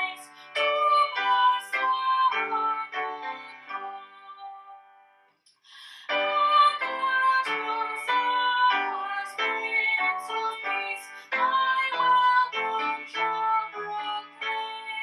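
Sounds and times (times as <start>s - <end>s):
hymn on keyboard: 0.0s - 5.0s, 5.9s - 15.0s.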